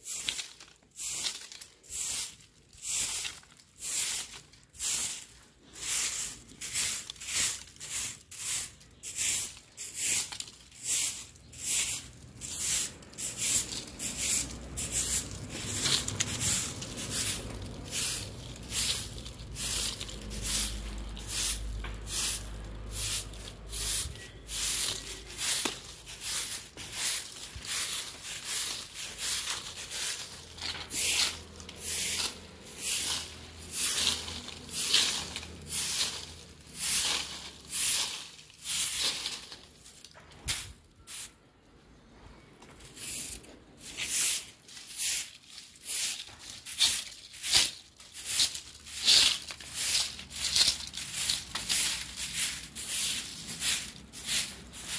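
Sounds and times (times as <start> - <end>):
broom sweeping dry leaves: 0.0 - 41.4, 42.8 - 54.9.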